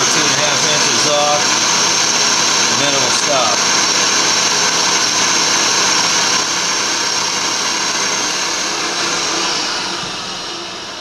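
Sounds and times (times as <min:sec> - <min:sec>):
mill spindle motor whine: 0:00.0 - 0:11.0.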